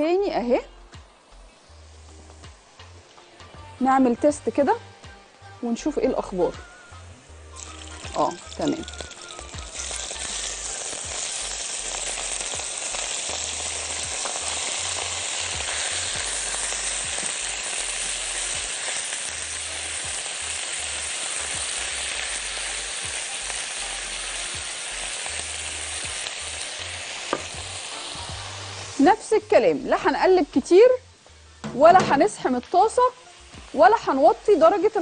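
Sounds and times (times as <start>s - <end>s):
meat sizzling in a wok: 1.6s - 4.7s, 5.9s - 35.0s.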